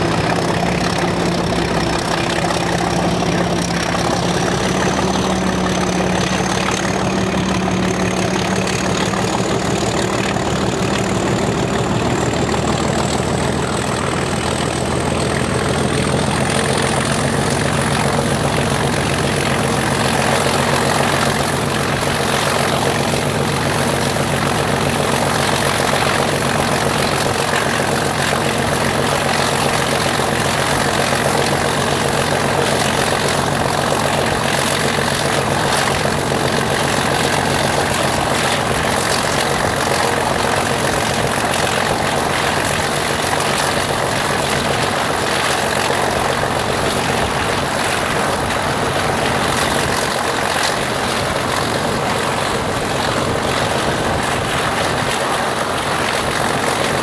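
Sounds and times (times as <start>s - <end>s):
locomotive engine throb: 0.0s - 57.0s
steady rushing noise: 0.0s - 57.0s.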